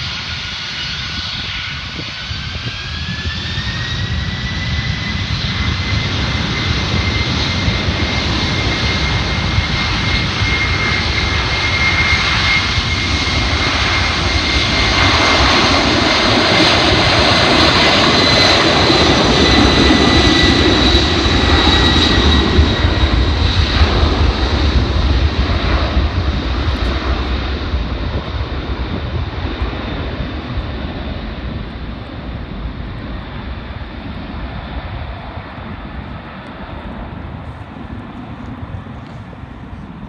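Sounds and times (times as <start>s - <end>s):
jet engines rushing with whine: 0.0s - 40.0s.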